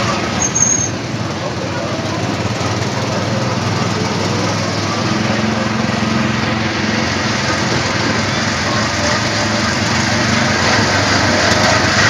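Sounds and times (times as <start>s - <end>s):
small petrol engine droning: 0.0s - 12.0s.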